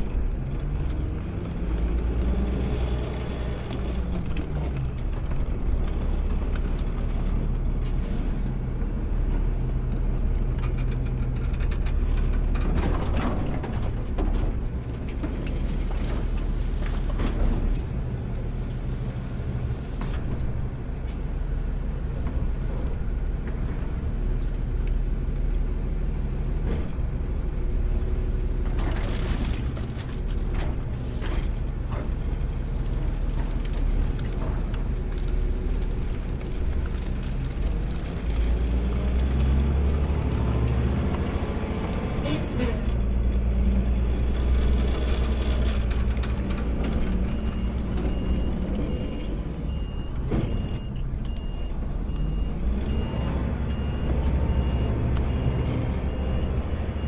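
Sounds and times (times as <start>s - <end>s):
garbage truck engine: 0.0s - 57.0s.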